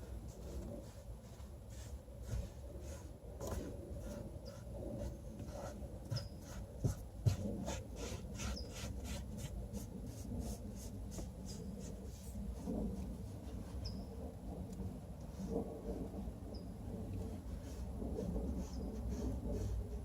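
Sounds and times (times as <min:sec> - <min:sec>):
hand scratching fabric: 0:00.0 - 0:14.3, 0:16.9 - 0:20.0.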